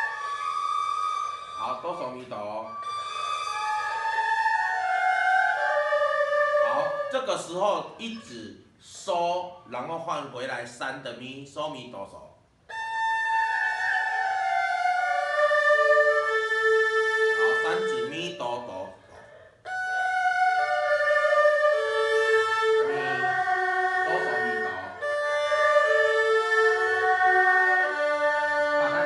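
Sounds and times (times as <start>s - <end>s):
erhu bowed notes: 0.0s - 8.3s, 12.7s - 18.7s, 19.3s - 29.0s.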